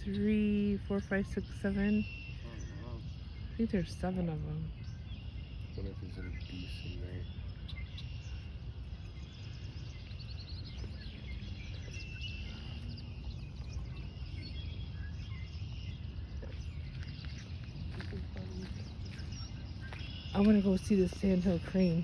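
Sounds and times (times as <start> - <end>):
bird chirps and calls: 0.0 - 22.0
low rumble: 0.0 - 22.0.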